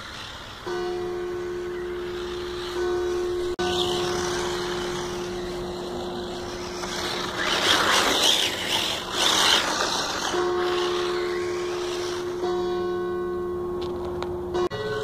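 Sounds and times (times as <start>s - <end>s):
rc car motor and tyres: 0.0s - 14.3s.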